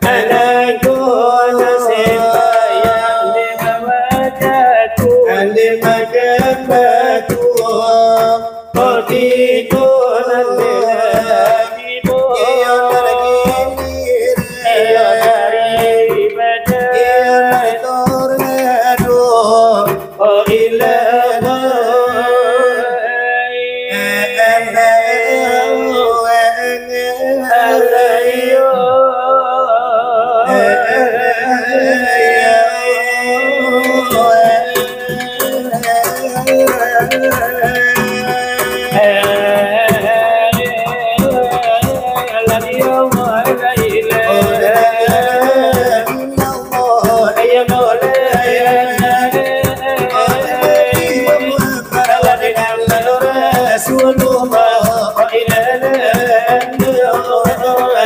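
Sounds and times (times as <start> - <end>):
men singing devotional chant: 0.0 - 58.0.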